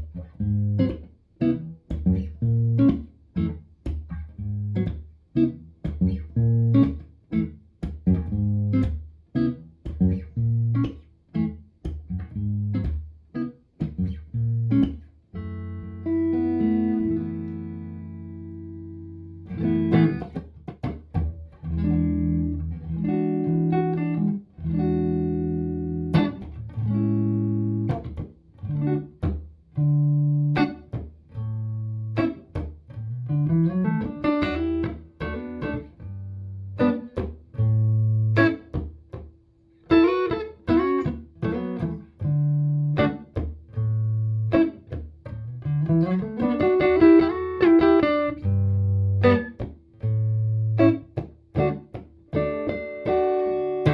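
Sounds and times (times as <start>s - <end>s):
clean electric guitar playing: 0.0s - 53.9s.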